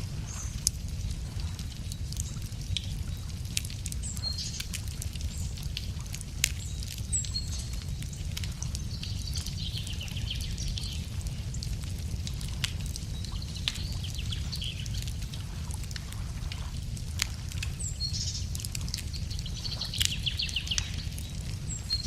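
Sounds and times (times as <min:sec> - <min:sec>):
campfire crackling and popping: 0:00.0 - 0:22.0
low steady rumble: 0:00.0 - 0:22.0.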